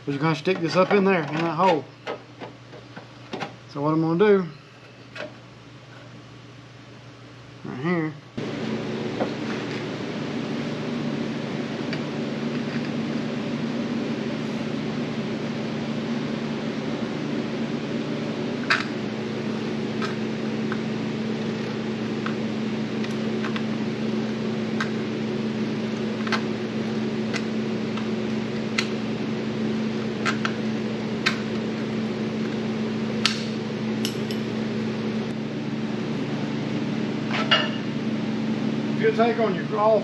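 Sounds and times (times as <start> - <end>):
ventilation hum: 0.0 - 40.0.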